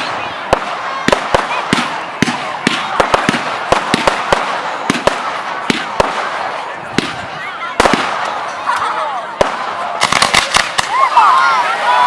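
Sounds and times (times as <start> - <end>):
fireworks bangs: 0.0 - 11.2
fireworks crackle: 0.0 - 11.3.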